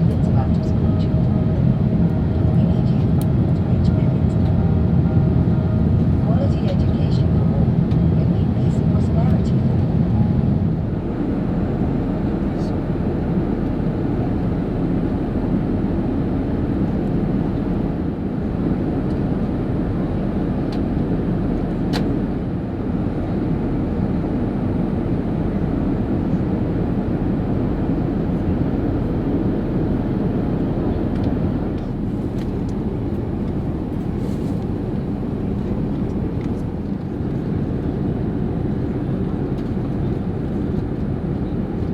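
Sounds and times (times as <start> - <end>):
airplane cabin noise: 0.0 - 41.9.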